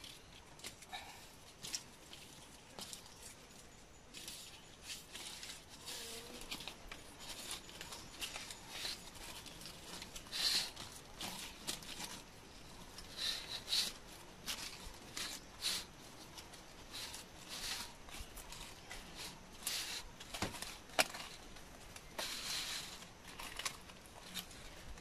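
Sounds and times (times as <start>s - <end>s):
palm leaf strips rustling: 0.0s - 25.0s.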